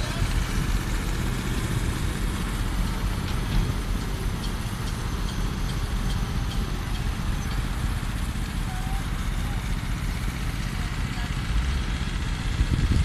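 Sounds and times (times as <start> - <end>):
construction machinery engine rumble: 0.0 - 13.0.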